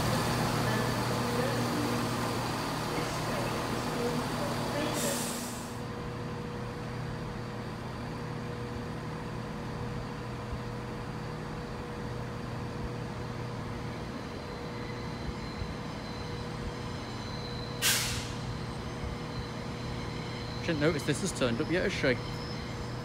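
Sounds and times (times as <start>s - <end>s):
diesel train engines droning: 0.0s - 23.0s.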